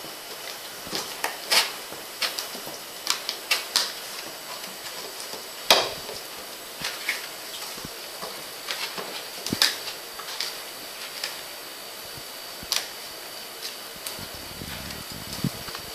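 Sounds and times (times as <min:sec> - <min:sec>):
steady hiss: 0:00.0 - 0:15.9.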